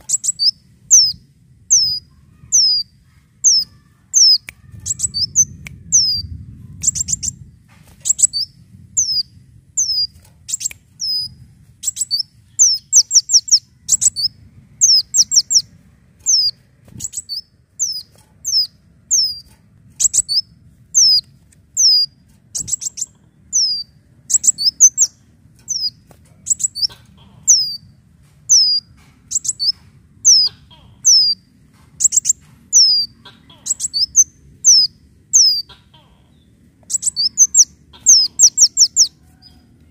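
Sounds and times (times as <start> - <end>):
sunbird chirping: 0.0 - 39.6.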